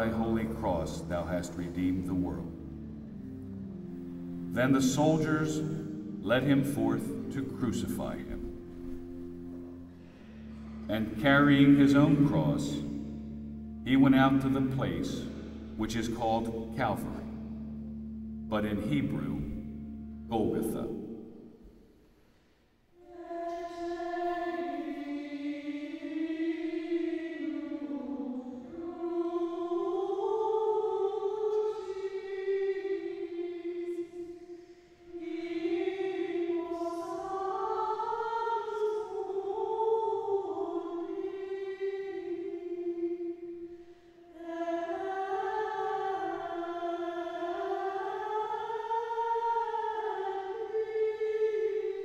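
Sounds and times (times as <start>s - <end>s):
slow hymn singing: 0.0s - 52.0s.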